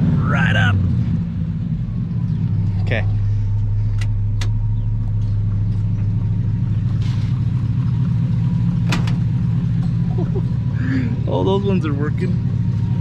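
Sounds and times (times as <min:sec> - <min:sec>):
pickup truck engine idling: 0:00.2 - 0:13.0.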